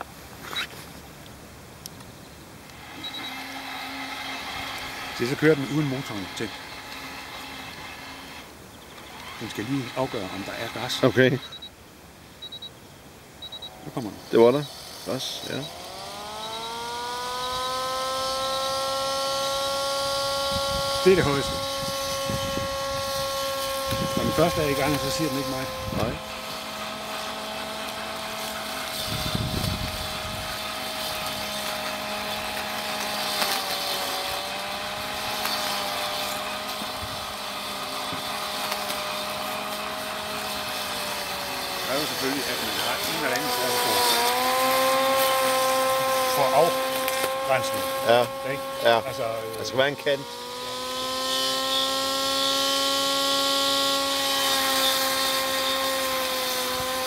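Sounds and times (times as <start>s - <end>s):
robotic lawnmower motor whine: 2.6s - 11.8s, 13.4s - 57.0s.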